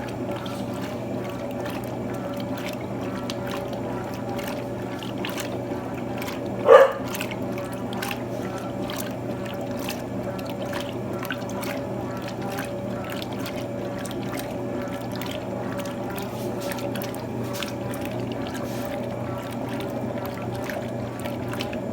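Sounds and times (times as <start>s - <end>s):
washing machine motor hum: 0.0s - 21.9s
water sloshing in tub: 0.0s - 21.9s.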